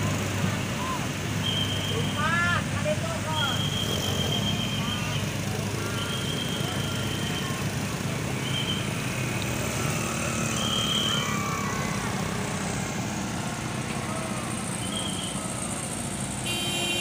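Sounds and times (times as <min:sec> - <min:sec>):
traffic rumbling uphill: 0:00.0 - 0:17.0.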